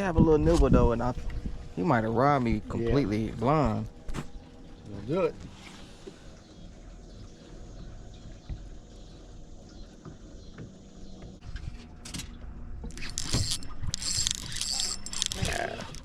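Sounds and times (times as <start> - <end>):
boat low hum: 0.0 - 16.0.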